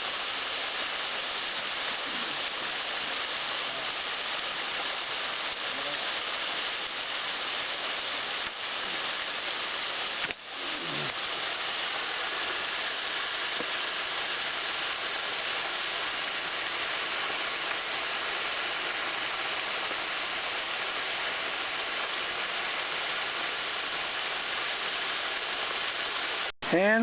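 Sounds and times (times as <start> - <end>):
waterfall pouring into pool: 0.0 - 27.0.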